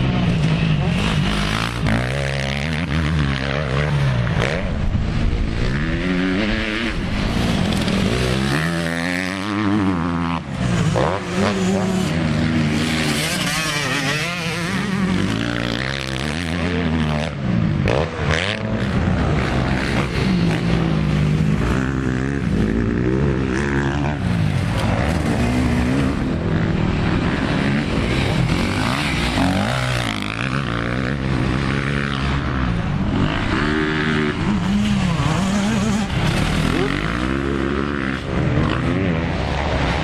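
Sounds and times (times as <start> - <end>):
motocross bike engines revving: 0.0 - 40.0.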